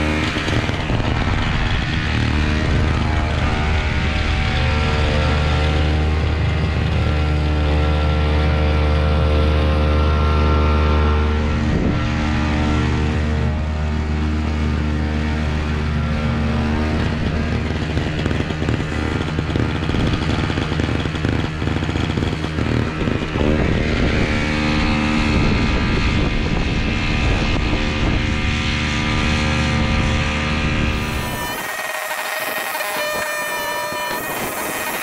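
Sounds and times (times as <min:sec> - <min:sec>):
snow blower engine running: 0:00.0 - 0:35.0.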